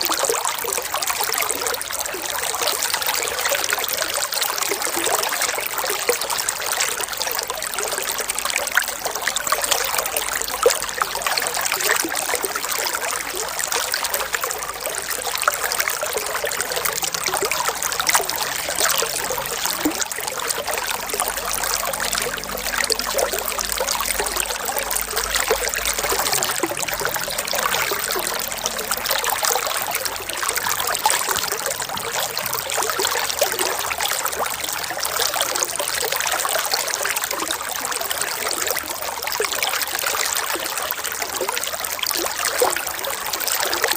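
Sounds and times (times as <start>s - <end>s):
water trickling and splashing: 0.0s - 43.9s.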